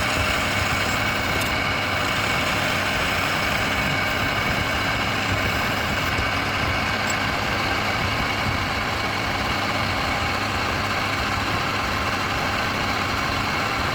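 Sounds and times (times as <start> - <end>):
motor running steadily: 0.0 - 13.9.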